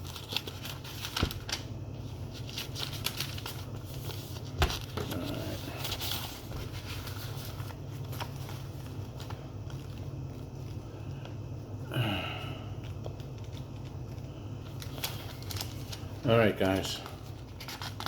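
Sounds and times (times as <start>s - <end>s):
thin pages turning: 0.0s - 11.3s, 12.8s - 18.0s
steady low hum: 0.0s - 18.0s.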